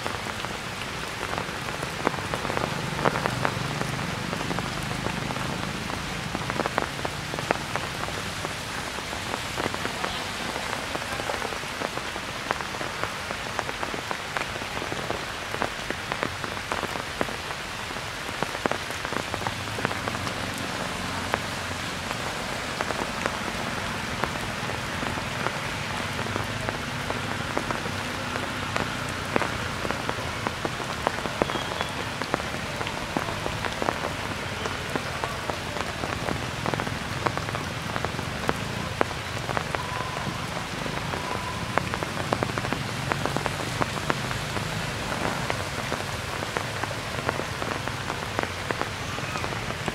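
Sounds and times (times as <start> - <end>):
raindrops tapping sharply: 0.0 - 49.9
steady rain falling: 0.0 - 49.9.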